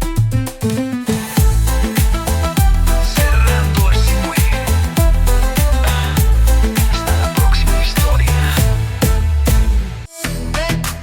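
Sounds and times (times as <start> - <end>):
cumbia dance music: 0.0 - 11.0.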